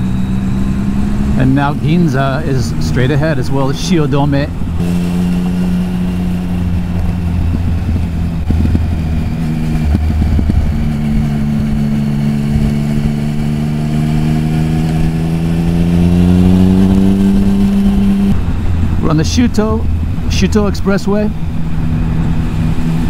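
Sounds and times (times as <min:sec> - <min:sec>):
constant low rumble: 0:00.0 - 0:23.0
motorcycle engine accelerating: 0:00.0 - 0:23.0.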